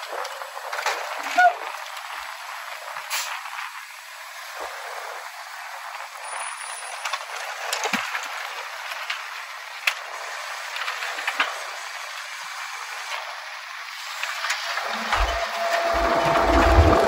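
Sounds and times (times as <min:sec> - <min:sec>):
garbage truck running hiss: 0:00.0 - 0:17.0.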